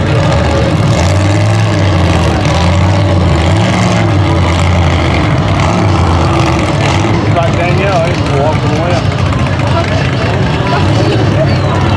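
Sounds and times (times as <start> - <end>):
truck engine running hard: 0.0 - 11.9.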